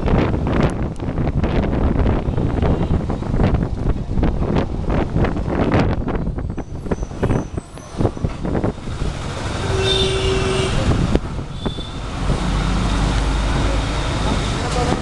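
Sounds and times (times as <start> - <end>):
bus engine and road rumble: 0.0 - 15.0
wind buffeting: 0.0 - 15.0.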